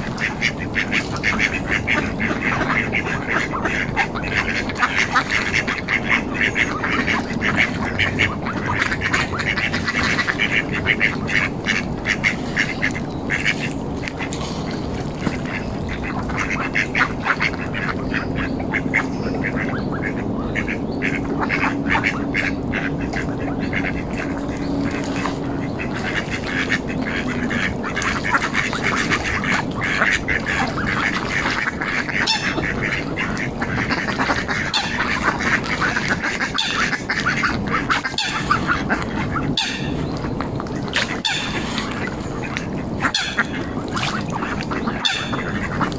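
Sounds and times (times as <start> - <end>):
ducks quacking: 0.0 - 45.9
low background rumble: 0.0 - 45.9.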